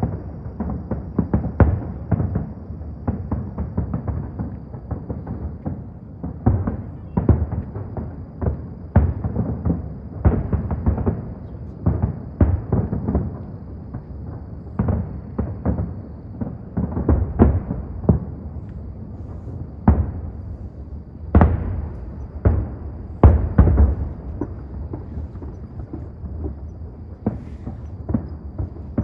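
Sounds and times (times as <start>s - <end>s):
fireworks bursting with deep bangs: 0.0s - 29.0s.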